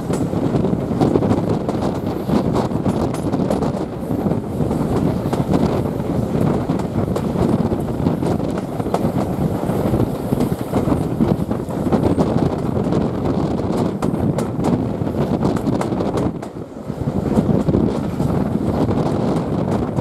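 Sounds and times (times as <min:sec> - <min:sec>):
railway carriage rumbling on track: 0:00.0 - 0:20.0
wind buffeting microphone: 0:00.0 - 0:20.0.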